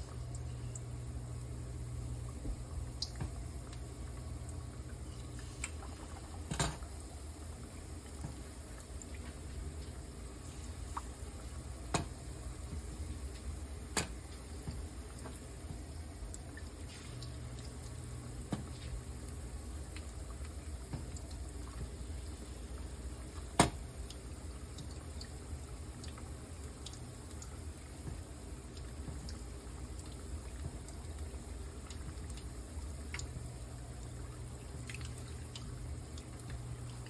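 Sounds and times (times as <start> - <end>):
chicken wings deep-frying in oil: 0.0 - 37.0.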